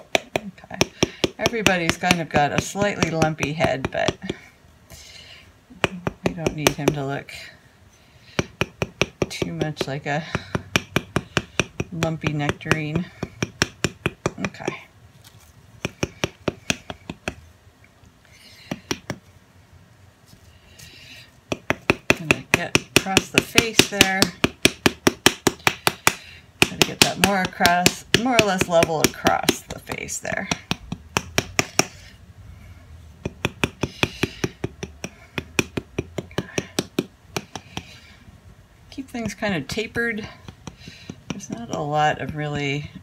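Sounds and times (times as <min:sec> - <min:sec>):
wooden paddle slapping clay: 0:00.0 - 0:04.5, 0:05.7 - 0:07.4, 0:08.3 - 0:17.5, 0:18.6 - 0:19.3, 0:20.2 - 0:32.1, 0:33.2 - 0:38.0, 0:39.0 - 0:43.0.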